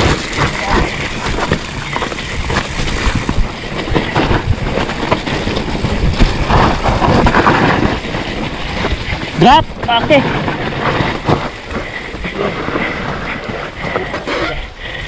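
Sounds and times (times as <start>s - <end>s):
bike rattling and knocking: 0.0s - 15.0s
bike tyres on dirt: 0.0s - 15.0s
wind buffeting microphone: 0.0s - 15.0s.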